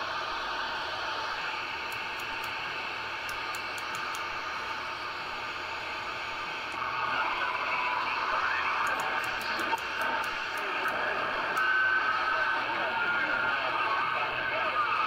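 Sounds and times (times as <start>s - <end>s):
distorted radio signals: 0.0s - 15.0s
radio static and hiss: 0.0s - 15.0s.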